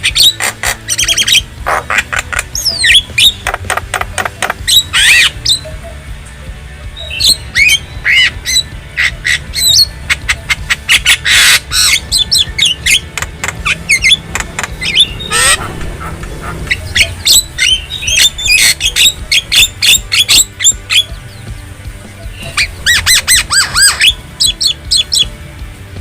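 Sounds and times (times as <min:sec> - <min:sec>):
myna bird calling: 0:00.0 - 0:06.1, 0:06.9 - 0:25.4.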